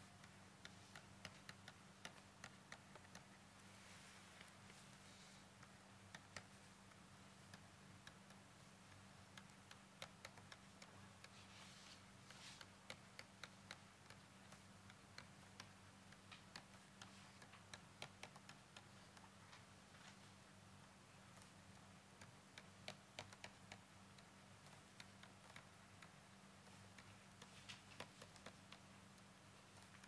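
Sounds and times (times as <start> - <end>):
stylus tapping on pen tablet: 0.0 - 3.8, 4.4 - 20.3, 21.2 - 30.0
low electrical hum: 0.0 - 30.0.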